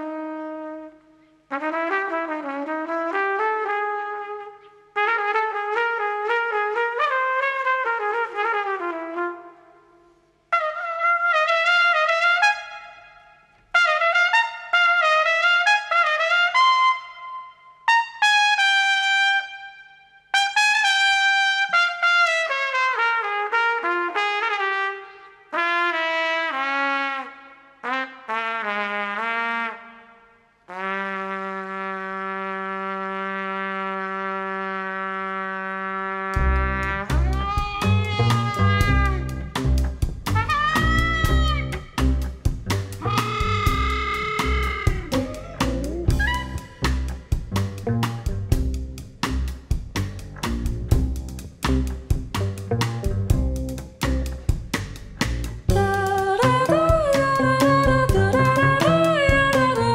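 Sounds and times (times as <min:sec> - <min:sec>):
jazz trumpet solo: 0:00.0 - 0:59.9.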